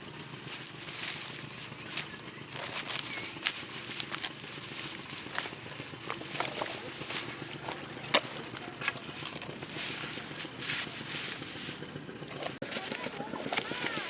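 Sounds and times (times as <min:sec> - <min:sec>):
dry rice stalks rustling: 0:00.0 - 0:14.0.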